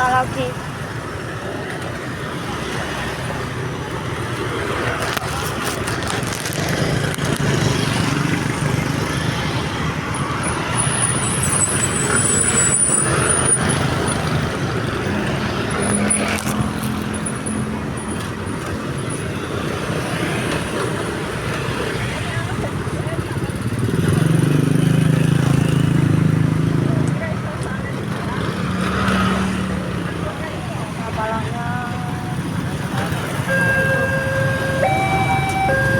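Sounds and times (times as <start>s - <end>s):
vehicle engines running: 0.0s - 35.9s.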